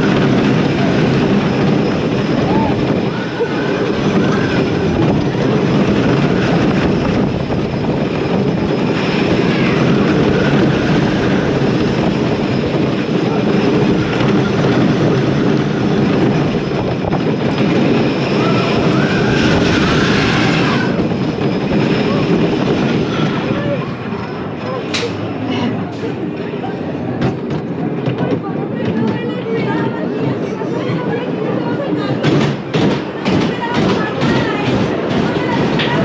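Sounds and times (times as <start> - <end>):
roller coaster wheels rumbling: 0.0 - 36.0
wind rushing over microphone: 0.0 - 36.0.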